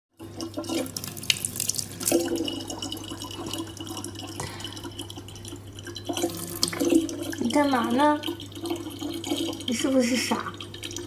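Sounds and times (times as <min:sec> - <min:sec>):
water drips and spatters: 0:00.2 - 0:11.0
water running from a tap: 0:00.2 - 0:11.0.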